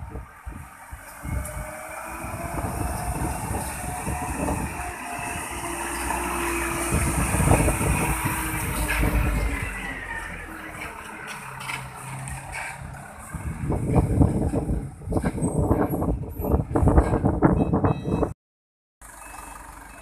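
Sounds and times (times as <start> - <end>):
truck diesel engine passing: 0.0 - 17.3, 19.0 - 20.0.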